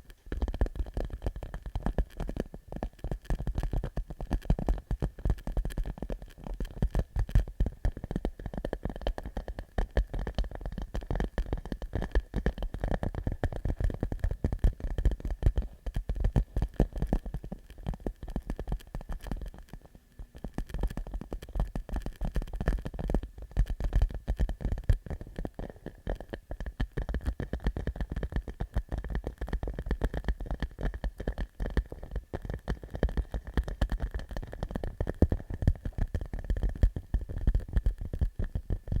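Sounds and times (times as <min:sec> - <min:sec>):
fingertips tapping plastic pouch: 0:00.0 - 0:39.0.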